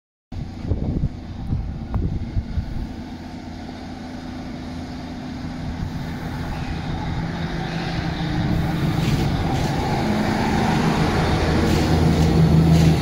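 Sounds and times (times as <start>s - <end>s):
diesel train engine hum: 0.3s - 13.0s.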